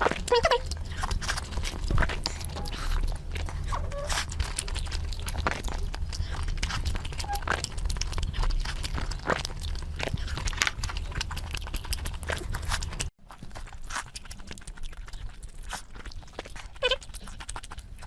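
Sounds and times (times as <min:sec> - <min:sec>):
chewing and biting food: 0:00.0 - 0:18.0.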